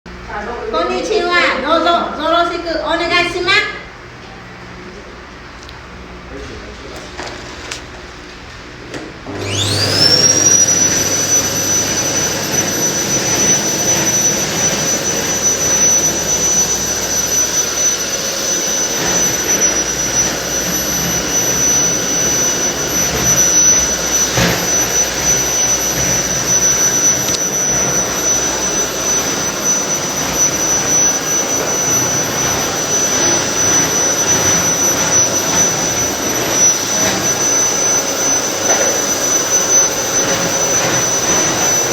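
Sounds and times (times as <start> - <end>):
vacuum cleaner whine: 5.8 - 41.9.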